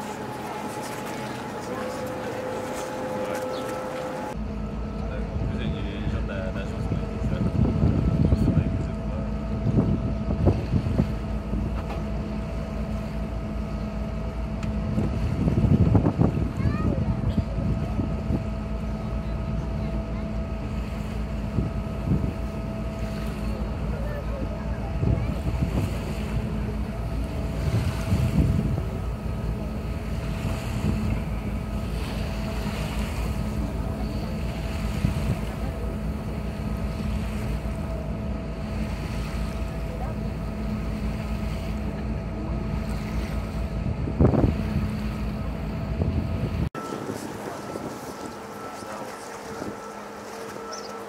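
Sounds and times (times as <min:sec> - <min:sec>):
ferry engine rumbling: 0:00.0 - 0:51.0
wind buffeting microphone: 0:05.4 - 0:51.0.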